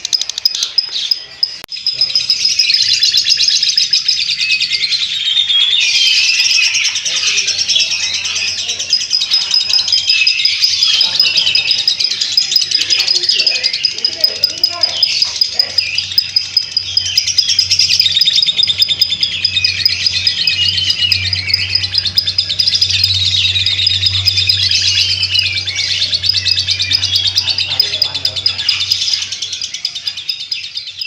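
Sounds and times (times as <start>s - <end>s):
lovebird trilling chatter: 0.0s - 31.0s.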